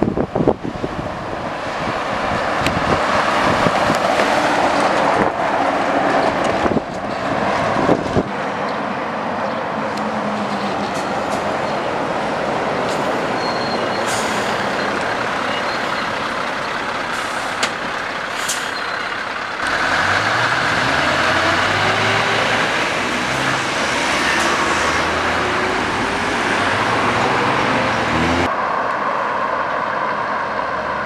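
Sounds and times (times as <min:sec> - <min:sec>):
diesel lorry engines: 0:00.0 - 0:31.0
tyre and road noise: 0:00.0 - 0:31.0.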